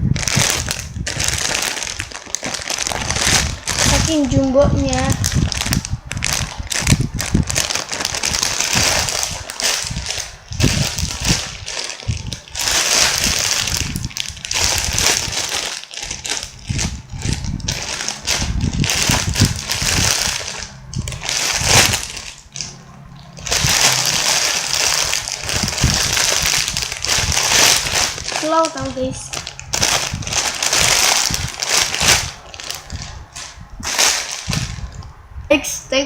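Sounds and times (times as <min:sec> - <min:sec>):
foam squishy being squeezed: 0:00.0 - 0:35.0.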